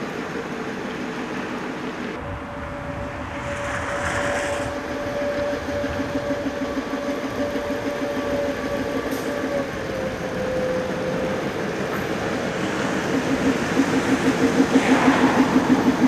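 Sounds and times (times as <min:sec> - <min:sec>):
locomotive whine: 0:00.0 - 0:16.0
diesel locomotive engine throbbing: 0:02.1 - 0:16.0.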